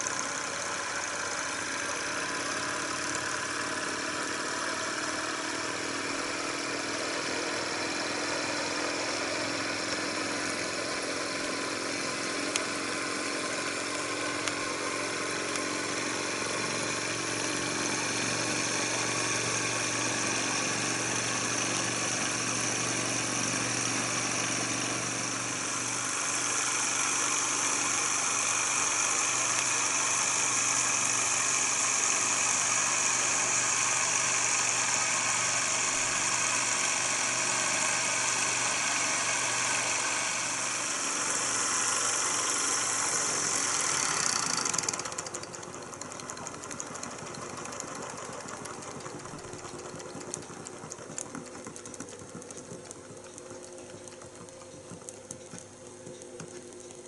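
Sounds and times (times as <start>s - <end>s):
small engine whirring and rattling: 0.0s - 57.0s.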